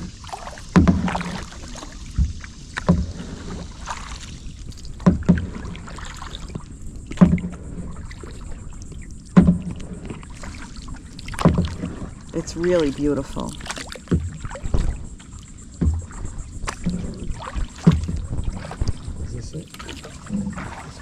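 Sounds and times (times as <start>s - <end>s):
water noise: 0.0s - 21.0s
paddle stroke knock and thud: 0.3s - 8.2s, 9.2s - 12.1s, 13.7s - 21.0s.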